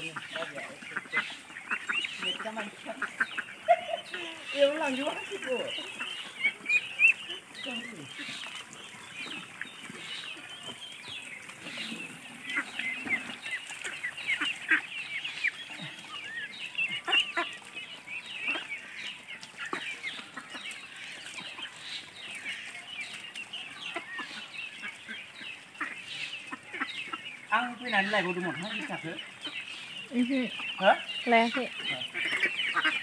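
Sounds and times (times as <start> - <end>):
ducklings peeping: 0.0 - 33.0.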